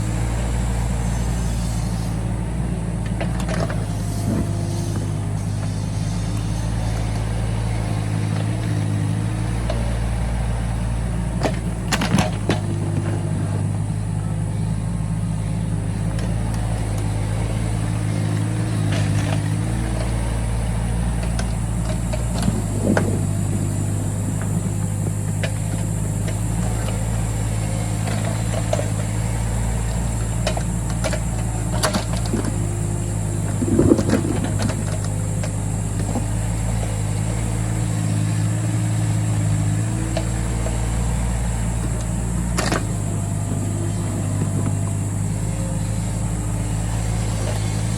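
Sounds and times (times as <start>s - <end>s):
excavator engine running: 0.0s - 47.9s.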